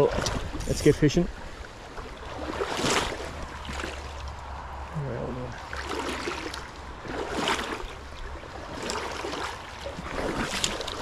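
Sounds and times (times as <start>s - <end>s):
water splashes: 0.0s - 11.0s
river running over stones: 1.8s - 11.0s.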